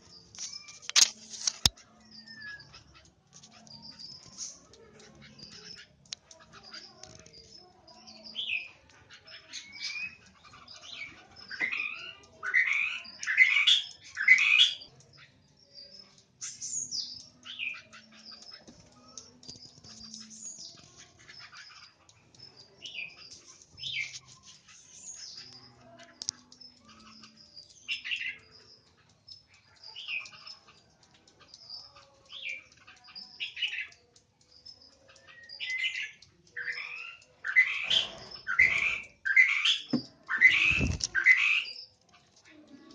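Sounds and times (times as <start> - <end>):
thin high bird chirps: 0.0 - 42.9.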